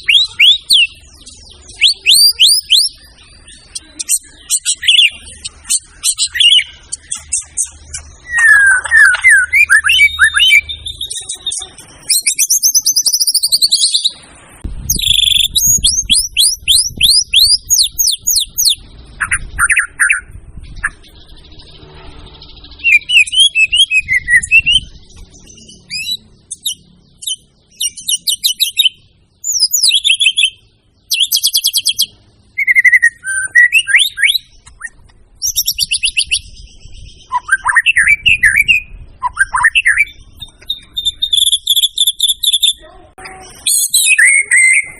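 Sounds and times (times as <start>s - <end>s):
bird singing whistled trills: 0.0s - 14.2s, 14.8s - 44.9s.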